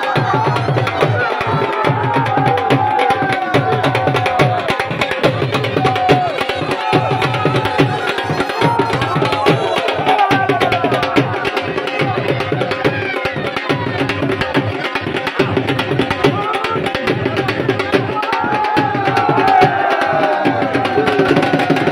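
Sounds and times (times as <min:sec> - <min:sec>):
crowd shouting: 0:00.0 - 0:14.5, 0:16.2 - 0:21.9
fast steady drumming: 0:00.0 - 0:21.9.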